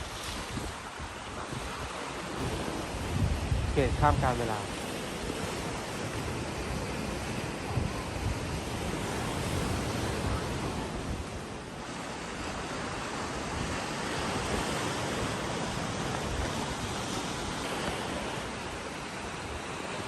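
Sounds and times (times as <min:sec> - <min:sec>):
sea waves: 0:00.0 - 0:20.0
wind: 0:00.0 - 0:20.0.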